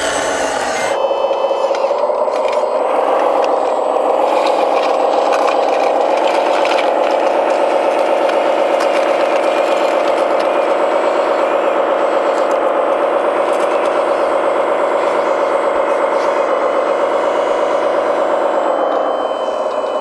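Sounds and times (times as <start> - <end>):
small electric motors whirring: 0.0 - 20.0.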